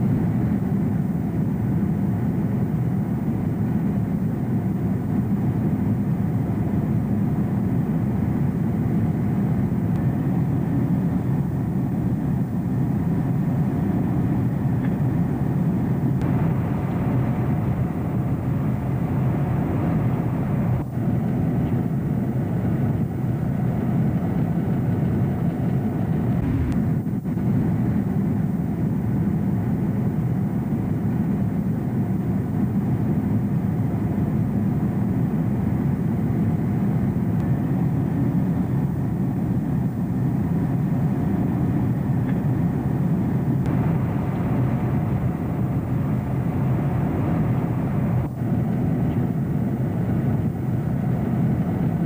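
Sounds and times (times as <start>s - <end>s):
jet engine cabin drone: 0.0s - 52.0s.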